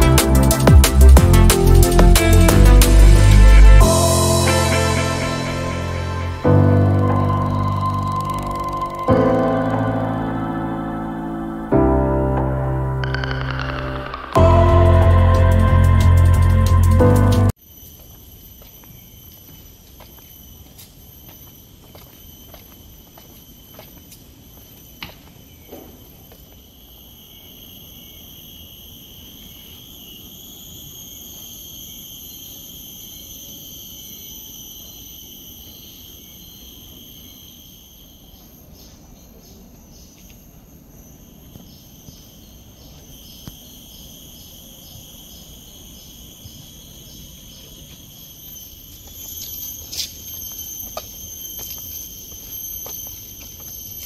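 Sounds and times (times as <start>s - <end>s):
insects high-pitched drone: 0.0s - 54.0s
pulsing insect call: 0.0s - 54.0s.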